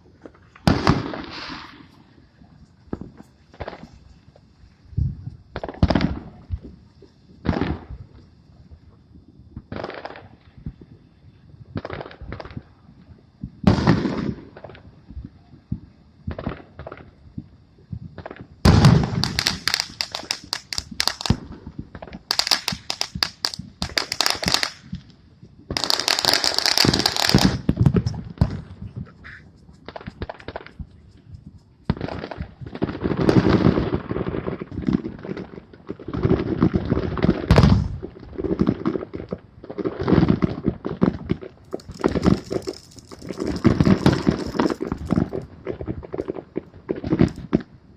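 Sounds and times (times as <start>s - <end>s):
fireworks bangs and crackling: 0.0s - 2.3s, 2.9s - 4.2s, 4.9s - 8.2s, 9.5s - 10.8s, 13.5s - 17.2s, 18.0s - 31.1s, 31.8s - 47.8s.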